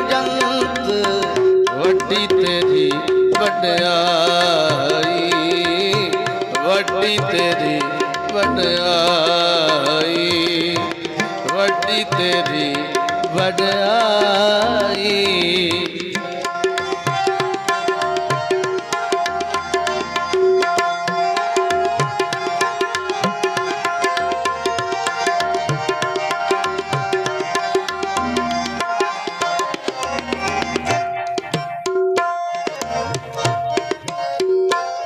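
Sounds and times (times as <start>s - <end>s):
harmonium notes: 0.0s - 35.0s
tabla drumming: 0.0s - 35.0s.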